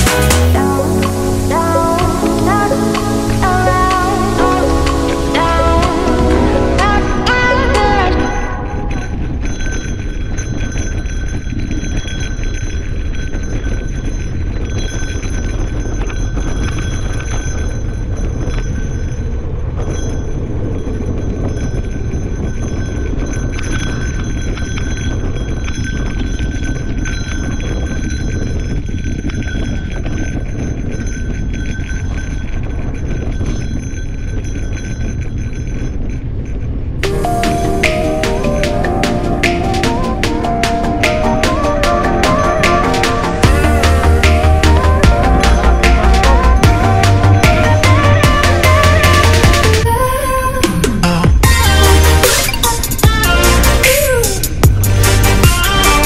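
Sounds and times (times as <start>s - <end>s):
bike rattling: 0.0s - 56.0s
wind noise: 0.0s - 56.0s.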